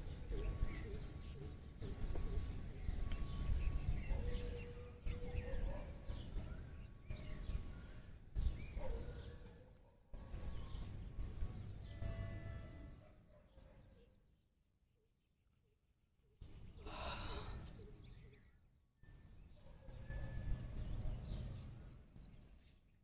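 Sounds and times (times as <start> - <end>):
birds chirping: 0.0 - 14.6, 16.4 - 23.0.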